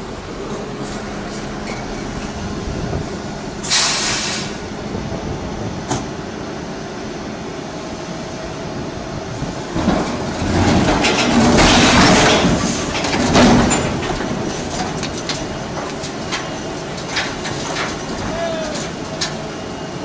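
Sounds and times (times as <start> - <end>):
excavator labouring: 0.0 - 20.0.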